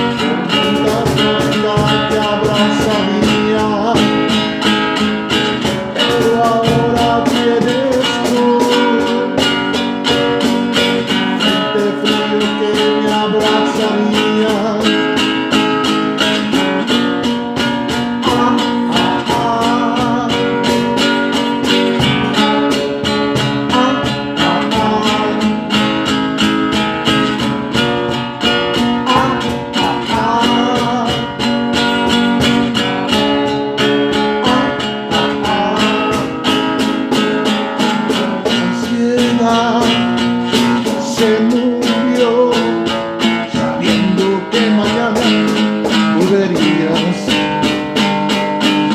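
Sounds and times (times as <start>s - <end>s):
plucked acoustic guitar music: 0.0s - 48.9s.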